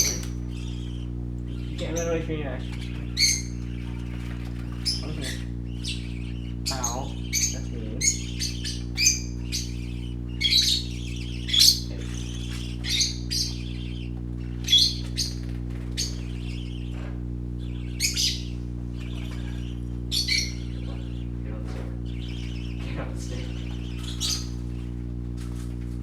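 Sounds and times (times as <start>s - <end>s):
parakeets chirping and squawking: 0.0s - 26.0s
steady low hum: 0.0s - 26.0s.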